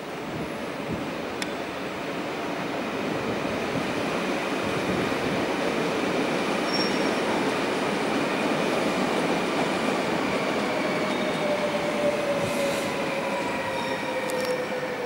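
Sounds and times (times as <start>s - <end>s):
electric train rolling past: 0.5s - 15.0s.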